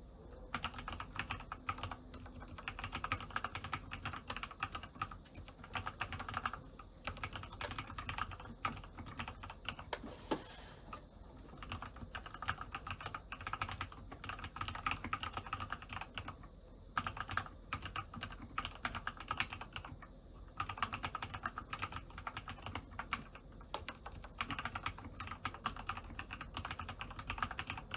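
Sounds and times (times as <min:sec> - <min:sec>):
typing on mechanical keyboard: 0:00.5 - 0:09.9, 0:11.5 - 0:27.9.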